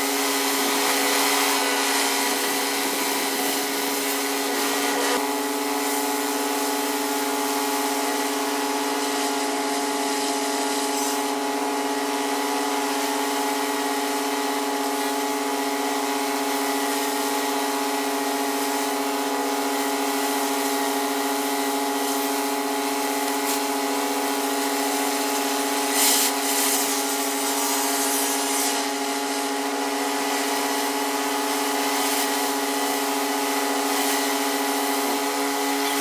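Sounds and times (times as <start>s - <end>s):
pressure washer machine hum: 0.0s - 36.0s
water jet hissing on concrete: 0.0s - 36.0s.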